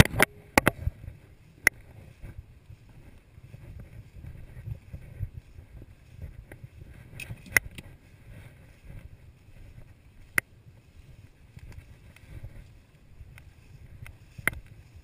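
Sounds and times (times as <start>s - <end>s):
footsteps through tall grass: 0.0s - 15.0s
wind on microphone: 0.0s - 15.0s.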